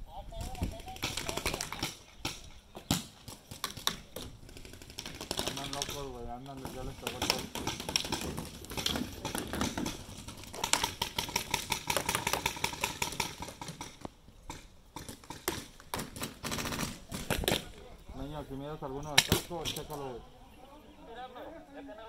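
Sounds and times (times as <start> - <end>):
paintball markers firing: 0.4 - 17.8, 19.1 - 20.0.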